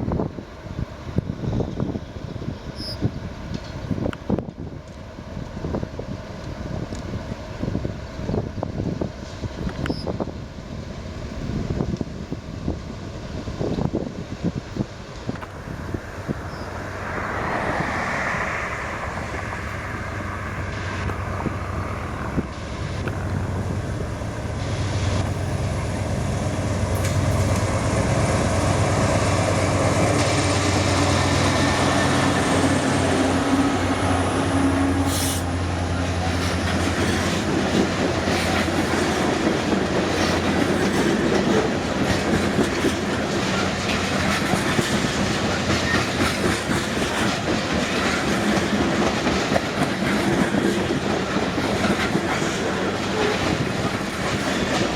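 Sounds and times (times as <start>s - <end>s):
diesel locomotive drone: 0.0s - 54.9s.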